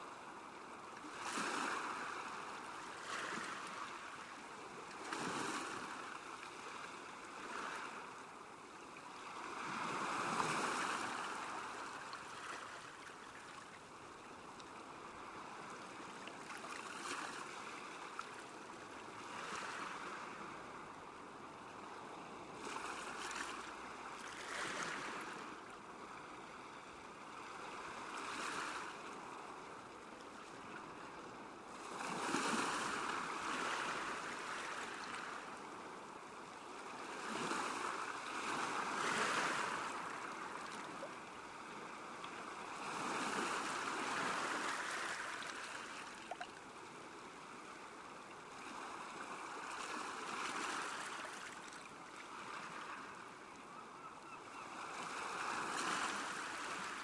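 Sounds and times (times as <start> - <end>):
waves lapping at shore: 0.0 - 57.0.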